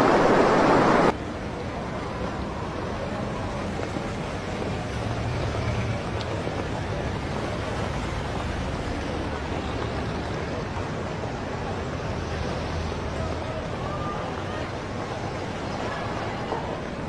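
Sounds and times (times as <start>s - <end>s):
city street traffic: 0.0s - 17.0s
faint murmur of voices: 1.1s - 17.0s.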